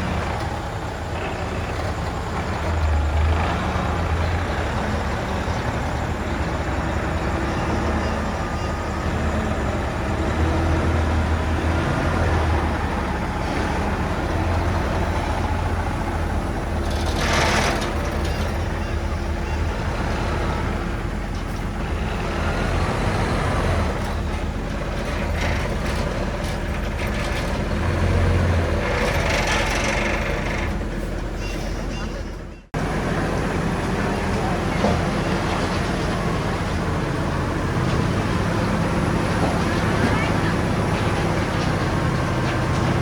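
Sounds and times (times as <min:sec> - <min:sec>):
diesel machinery rumbling: 0:00.0 - 0:43.0.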